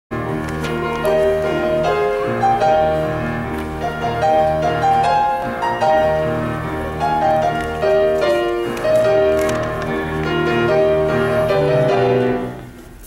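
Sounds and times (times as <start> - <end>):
piano accompaniment: 0.1 - 13.0.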